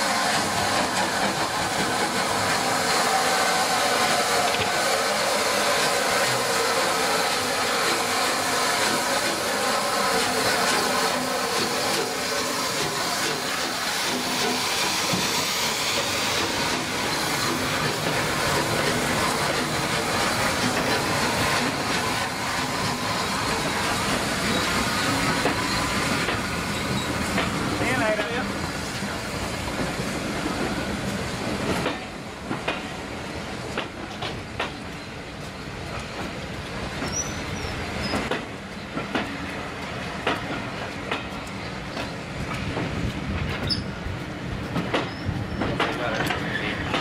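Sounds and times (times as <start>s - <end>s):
steady hiss of steam: 0.0s - 47.0s
steam locomotive moving off: 0.0s - 47.0s
train coaches rolling past: 0.0s - 47.0s.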